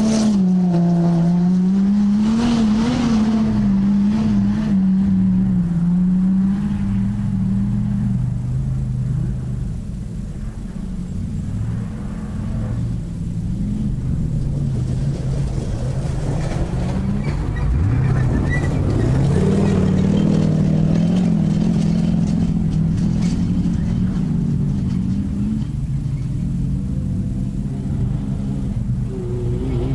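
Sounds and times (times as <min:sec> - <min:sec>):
race car engine running hard: 0:00.0 - 0:29.9.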